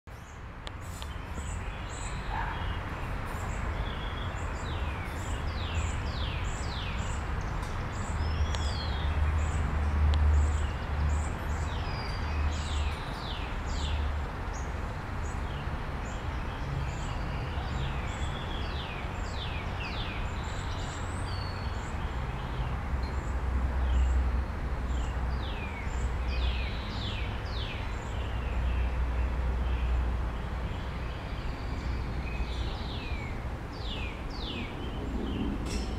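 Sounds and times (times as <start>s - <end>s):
songbirds singing: 0.1s - 35.9s.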